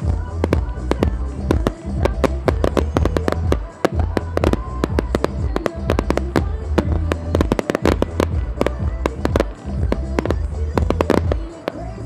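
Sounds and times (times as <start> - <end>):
firework shells bursting: 0.0 - 12.0
music with heavy bass: 0.0 - 12.0.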